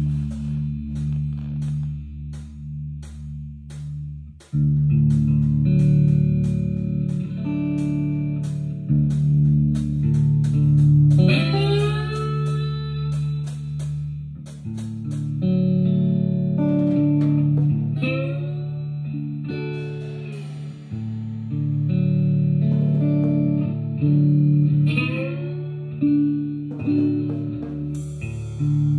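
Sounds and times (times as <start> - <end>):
electric guitar notes and chords: 0.0 - 28.9.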